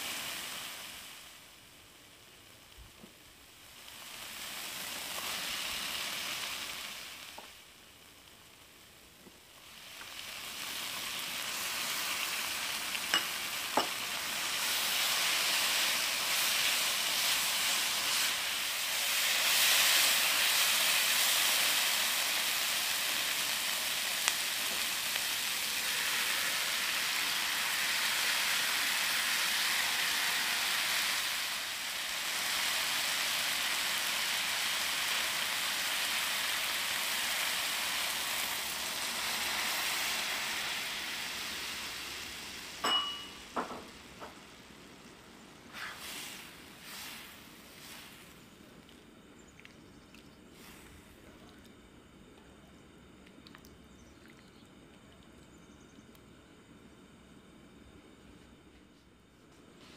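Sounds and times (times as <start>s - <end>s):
food sizzling in a wok: 0.0s - 49.5s.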